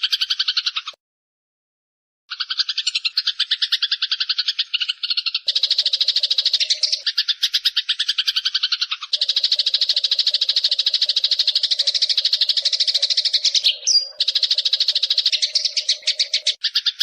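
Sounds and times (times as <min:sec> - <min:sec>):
sparrows chattering: 0:00.0 - 0:01.0, 0:02.3 - 0:17.0.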